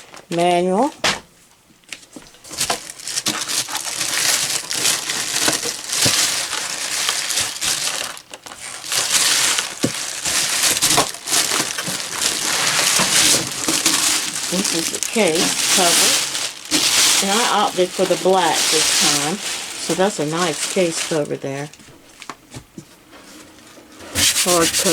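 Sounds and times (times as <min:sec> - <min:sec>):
packing material crinkling: 0:02.1 - 0:22.5, 0:23.4 - 0:24.9.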